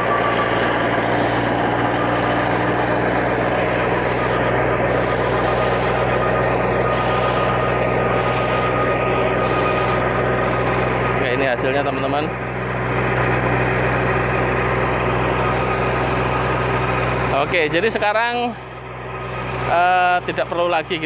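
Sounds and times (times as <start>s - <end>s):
tiller grinding through soil: 0.0s - 21.0s
tractor diesel engine: 0.0s - 21.0s.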